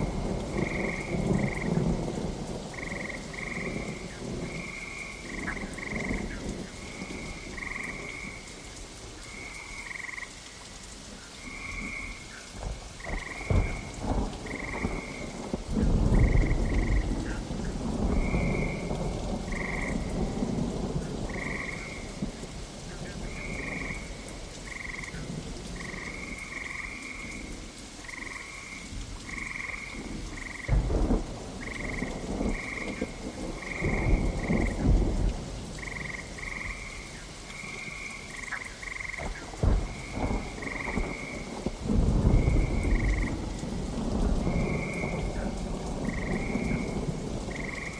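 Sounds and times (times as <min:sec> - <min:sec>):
frogs calling: 0:00.0 - 0:02.0, 0:02.6 - 0:22.4, 0:23.0 - 0:30.9, 0:31.5 - 0:35.2, 0:35.8 - 0:43.7, 0:44.5 - 0:47.9
rolls of thunder: 0:00.0 - 0:08.4, 0:11.5 - 0:47.9
steady rain: 0:00.0 - 0:47.9.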